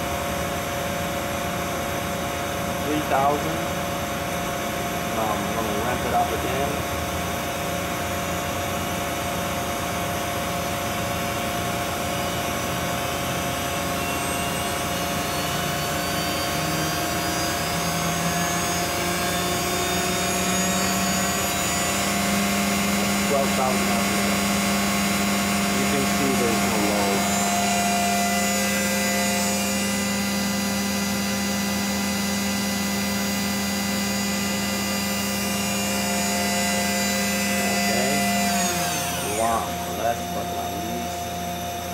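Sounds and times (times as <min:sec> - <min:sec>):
lathe spindle whining: 0:00.0 - 0:41.9.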